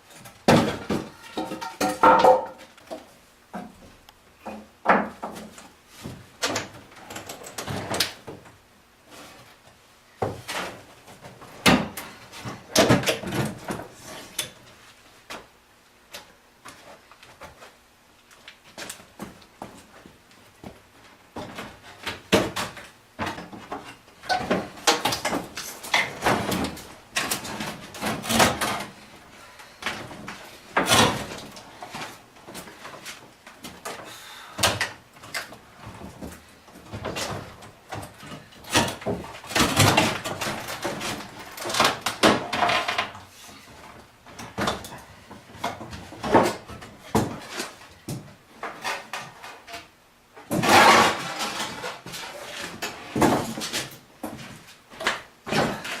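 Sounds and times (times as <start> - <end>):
wooden panels knocking and clattering: 0.0 - 8.6, 10.2 - 14.6, 18.7 - 56.0.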